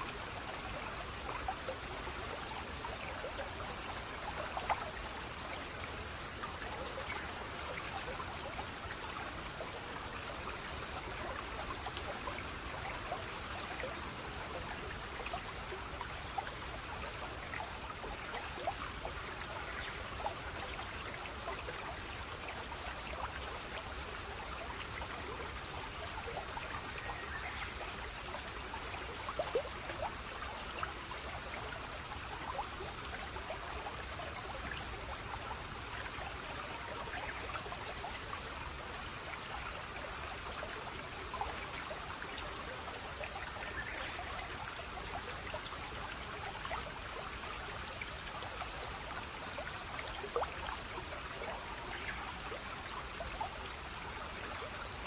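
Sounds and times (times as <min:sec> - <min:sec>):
stream water babbling: 0:00.0 - 0:55.0
water plinks and gurgles: 0:00.0 - 0:55.0.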